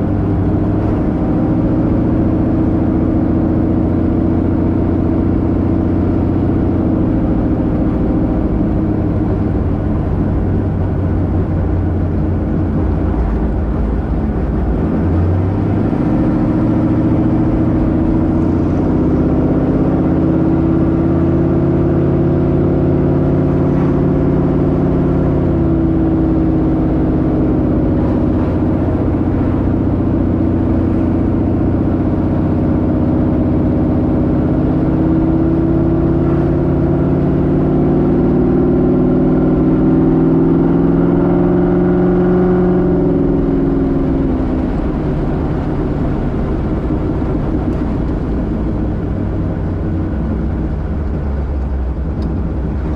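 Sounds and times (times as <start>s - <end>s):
car engine droning: 0.0s - 52.9s.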